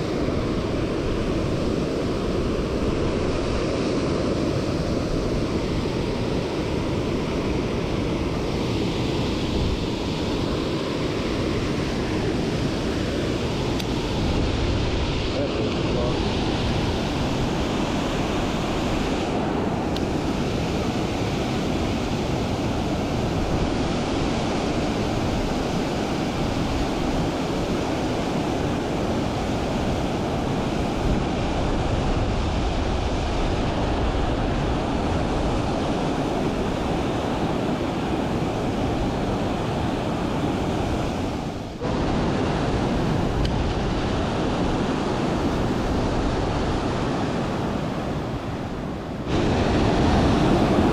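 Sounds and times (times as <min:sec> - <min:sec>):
fast-running river water: 0:00.0 - 0:50.9
wind gusting on microphone: 0:00.0 - 0:50.9.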